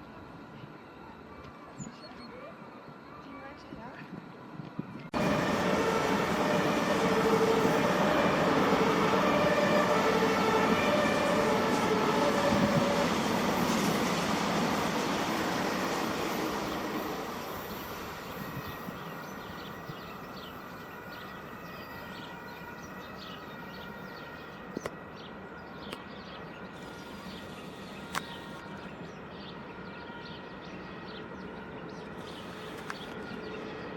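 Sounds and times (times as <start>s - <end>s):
train rolling past: 2.7s - 33.9s
birds chirping: 5.2s - 33.9s.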